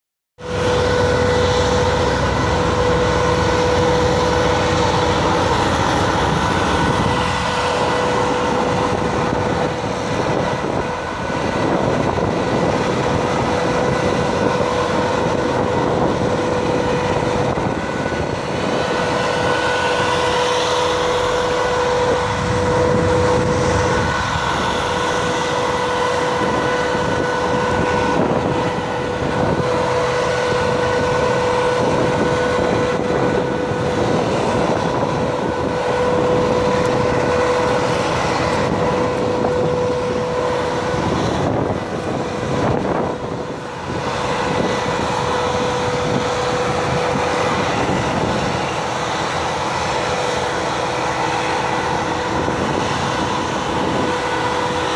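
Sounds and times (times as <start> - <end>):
diesel engine droning: 0.4 - 54.9.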